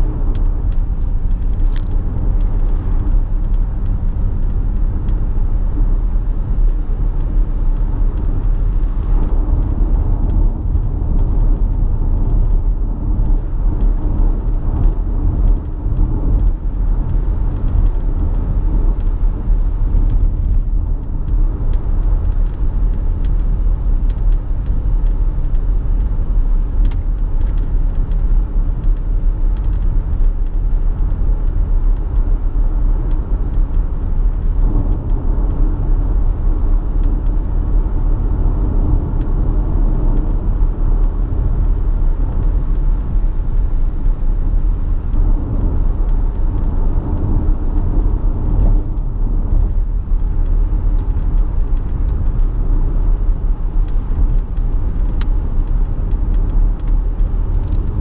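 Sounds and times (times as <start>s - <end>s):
car interior rumble while cruising: 0.0s - 58.0s.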